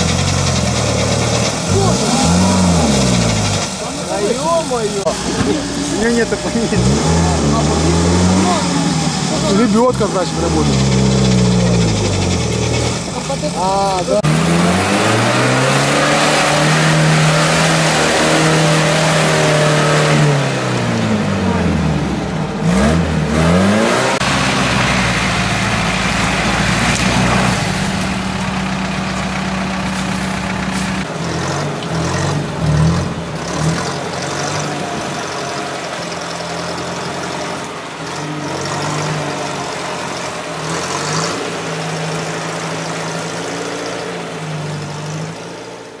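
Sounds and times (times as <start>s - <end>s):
off-road vehicle engine revving: 0.0s - 46.0s.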